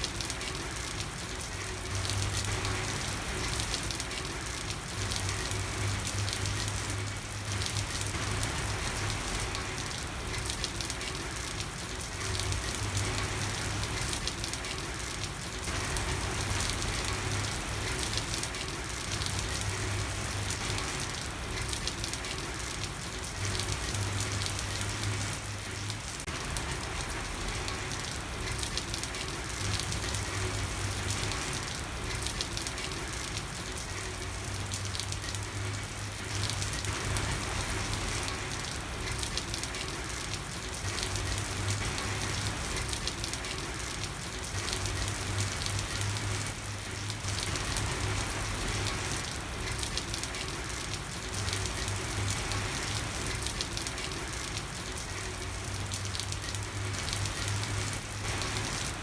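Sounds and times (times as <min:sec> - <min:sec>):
rain falling on a street: 0:00.0 - 0:59.0.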